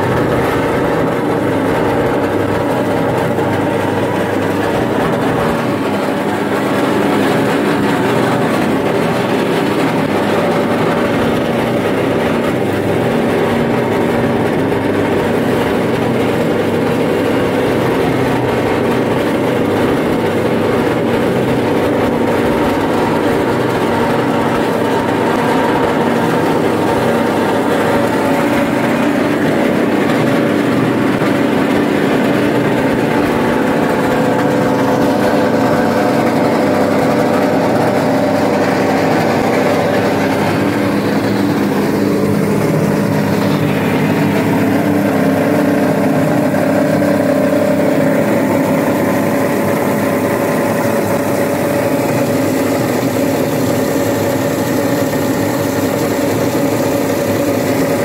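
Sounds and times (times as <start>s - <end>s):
shredder motor drone: 0.0s - 58.0s.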